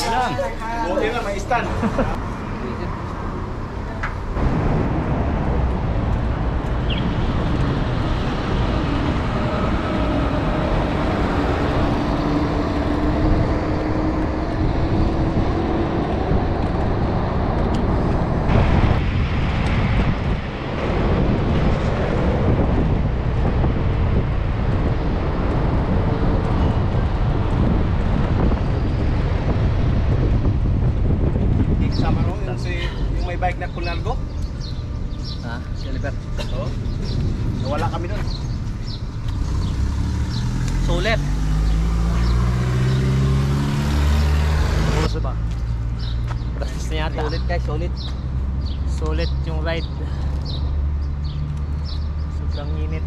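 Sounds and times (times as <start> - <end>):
vehicle engine passing: 0.0 - 52.6
road traffic: 0.0 - 53.0
wind on microphone: 3.4 - 52.3.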